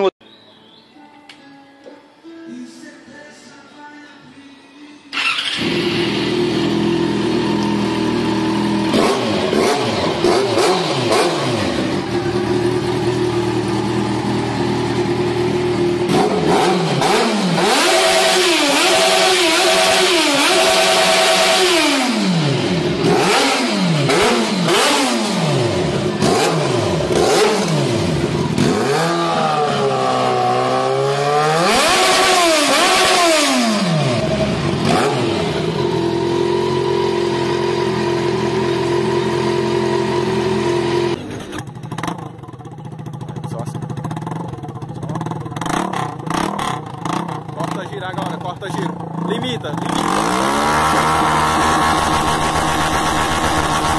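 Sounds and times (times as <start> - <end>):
motorcycle engine revving and idling: 5.1 - 53.9.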